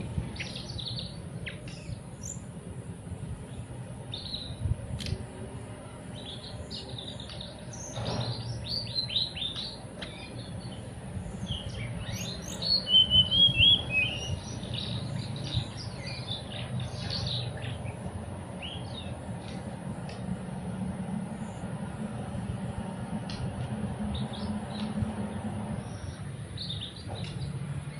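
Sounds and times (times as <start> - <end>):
songbird chirping: 0.0 - 2.6, 3.4 - 20.4, 22.8 - 27.9.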